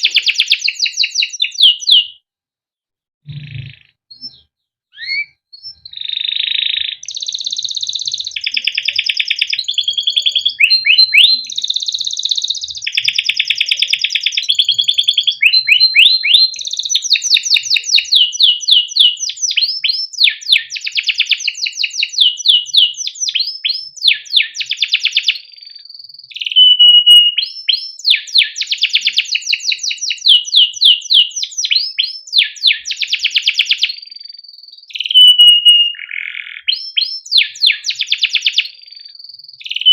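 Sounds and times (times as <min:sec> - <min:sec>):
canary singing: 0:00.0 - 0:02.2, 0:03.2 - 0:39.9.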